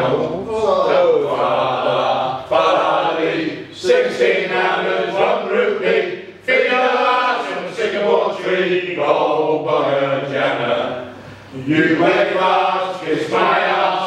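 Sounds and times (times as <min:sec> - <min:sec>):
men singing in chorus: 0:01.1 - 0:14.0.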